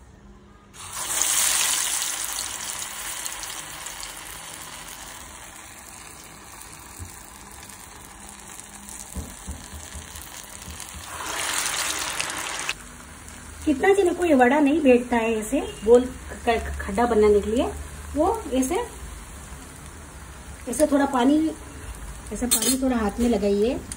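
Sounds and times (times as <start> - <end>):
batter sizzling in hot oil: 0.8 - 23.9.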